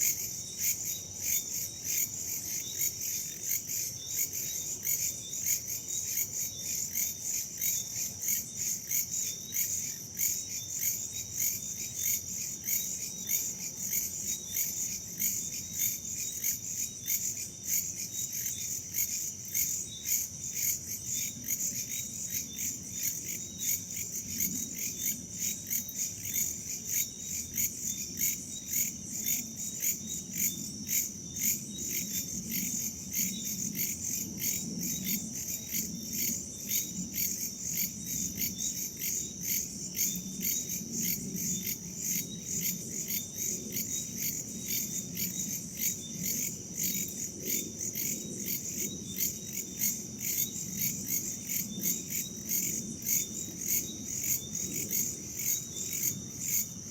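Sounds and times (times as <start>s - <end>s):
crickets and night insects trilling: 0.0s - 56.9s.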